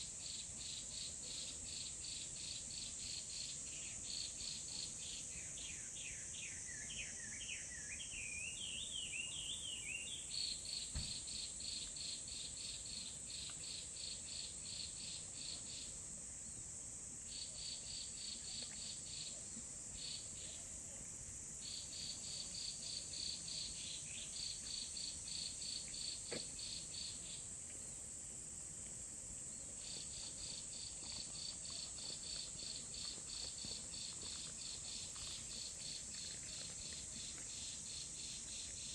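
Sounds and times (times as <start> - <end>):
rhythmic insect chirps: 0.1 - 16.0, 17.3 - 20.8, 21.4 - 28.2, 29.4 - 38.9
insects trilling: 0.2 - 38.9.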